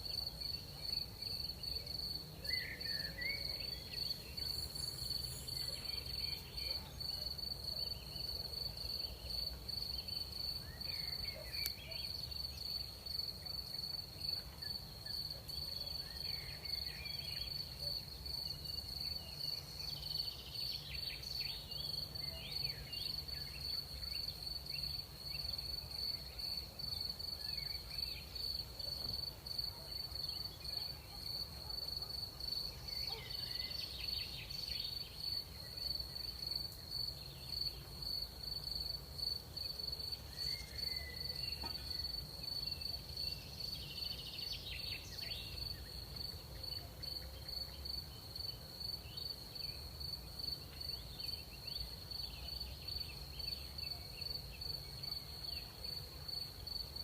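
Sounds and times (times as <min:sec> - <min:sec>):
crickets trilling: 0:00.0 - 0:56.8.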